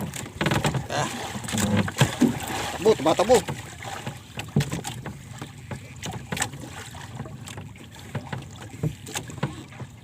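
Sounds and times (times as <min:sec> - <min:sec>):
water slapping against boat hull: 0:00.0 - 0:10.0.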